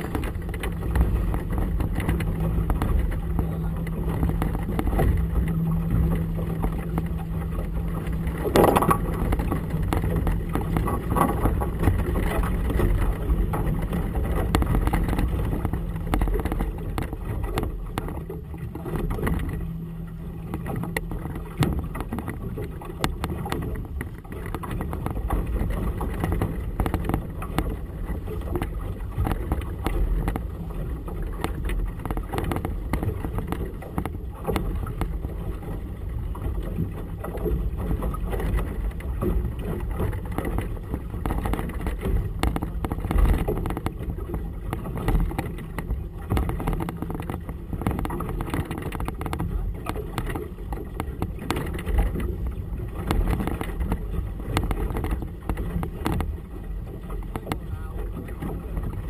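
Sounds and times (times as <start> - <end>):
outboard motor humming: 0.0 - 59.0
water slapping boat hull: 0.0 - 59.0.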